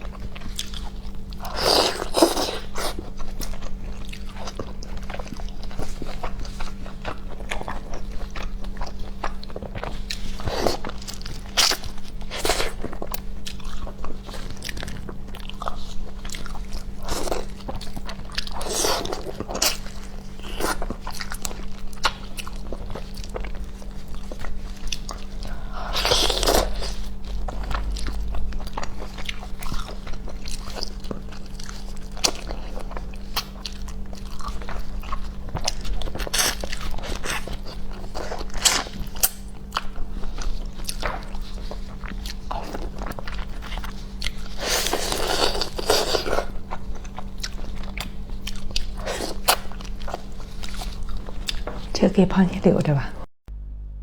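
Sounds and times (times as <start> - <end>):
biting and chewing: 0.0 - 52.0.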